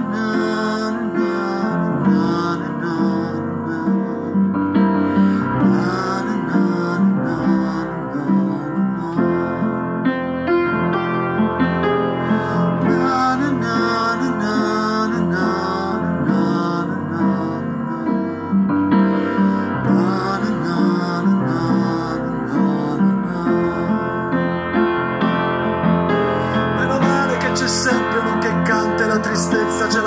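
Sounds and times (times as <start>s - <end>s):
man singing without words: 0.0s - 9.9s, 12.1s - 24.5s, 26.3s - 30.0s
piano playing chords and melody: 0.0s - 30.0s.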